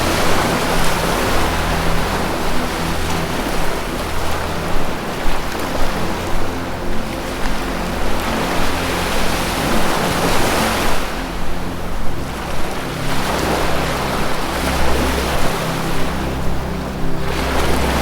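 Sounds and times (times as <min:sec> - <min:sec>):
low music drone: 0:00.0 - 0:18.0
ocean waves washing in: 0:00.0 - 0:18.0.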